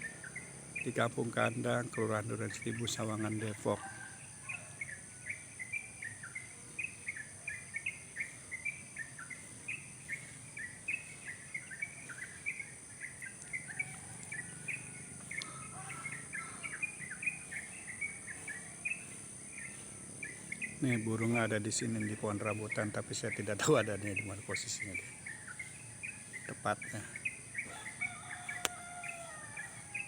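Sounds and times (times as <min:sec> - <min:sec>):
high-pitched insect hum: 0:00.0 - 0:30.0
songbird chirping: 0:00.0 - 0:30.0.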